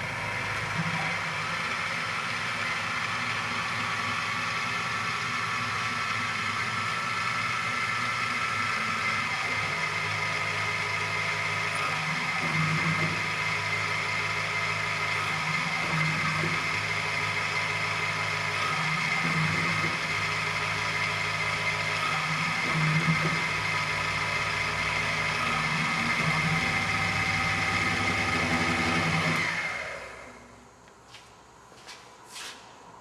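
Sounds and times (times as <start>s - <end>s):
milling machine motor whine: 0.0s - 30.7s.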